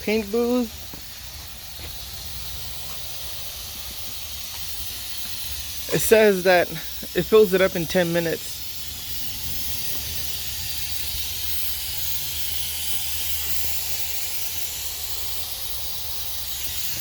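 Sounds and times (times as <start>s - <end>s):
electric blower fan running: 0.0s - 17.0s.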